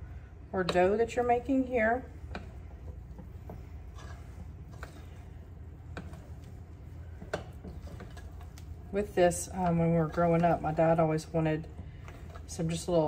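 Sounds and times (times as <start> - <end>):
low steady hum: 0.0 - 13.0
dough stirring scrape: 0.6 - 13.0.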